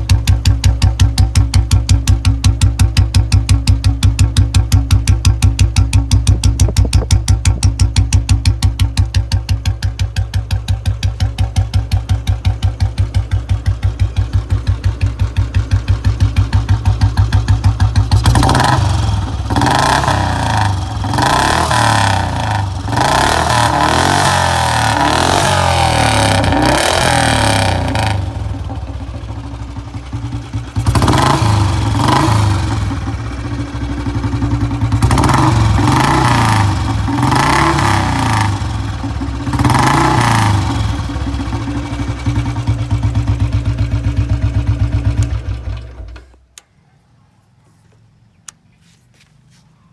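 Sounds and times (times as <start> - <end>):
motorcycle exhaust idling and revving: 0.0 - 46.4.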